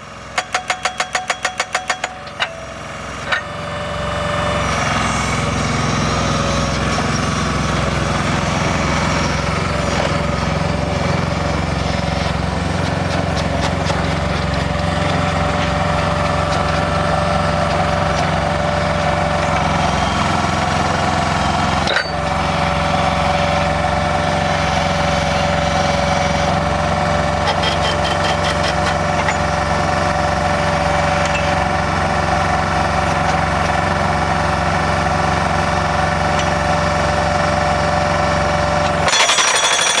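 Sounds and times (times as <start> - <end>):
pile driver engine running: 0.0 - 40.0.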